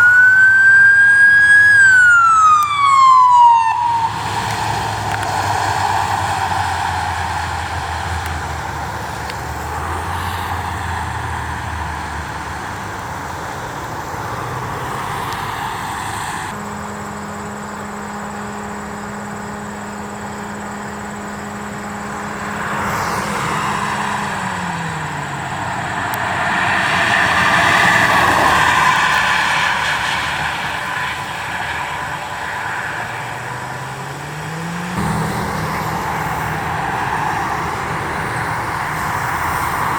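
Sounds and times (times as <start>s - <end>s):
loud vehicle passing: 0.0s - 39.9s
vehicles passing: 0.0s - 39.9s.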